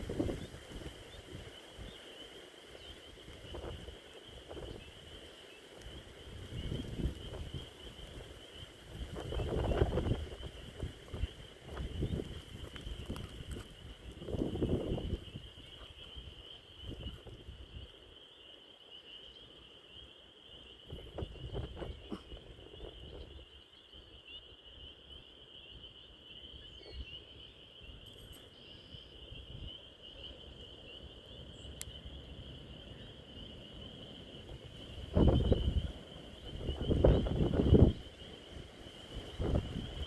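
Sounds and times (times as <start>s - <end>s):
spring peepers chorus: 0.0s - 40.0s.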